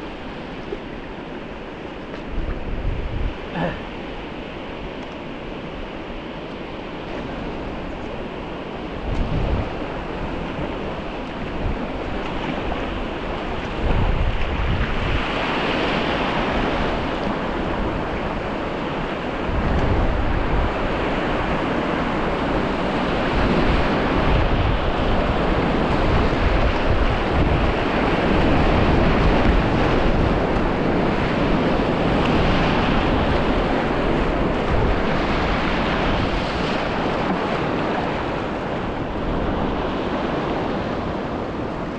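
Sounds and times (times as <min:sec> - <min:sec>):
river rushing through rapids: 0:00.0 - 0:41.9
wind buffeting microphone: 0:00.0 - 0:41.9.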